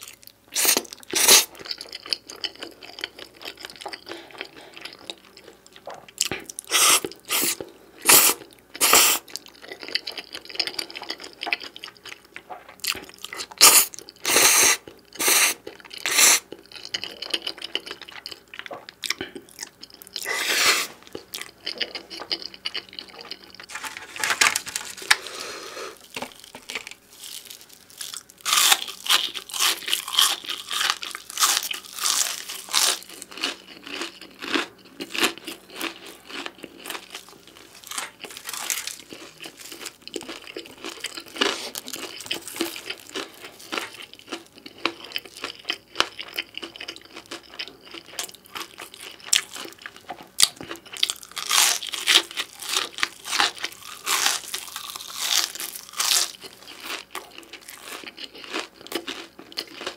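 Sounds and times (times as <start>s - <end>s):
crunchy chewing of pizza crust: 0.0s - 59.9s.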